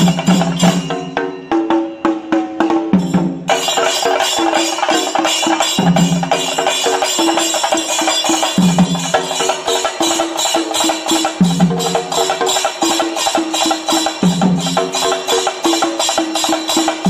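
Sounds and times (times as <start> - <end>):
drums beaten with sticks: 0.0 - 17.0.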